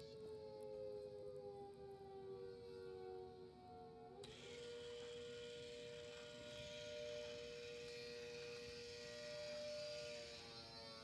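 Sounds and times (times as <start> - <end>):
two-tone tornado siren: 0.0 - 11.0.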